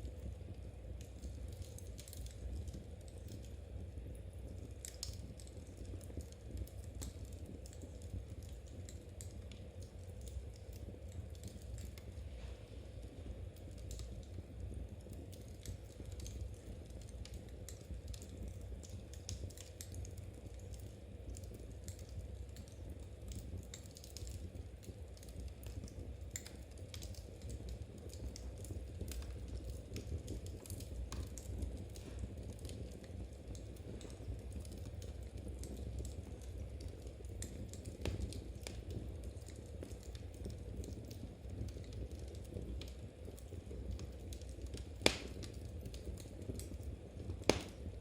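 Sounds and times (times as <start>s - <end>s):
low steady rumble: 0.0s - 48.0s
wood fire crackling: 0.0s - 48.0s.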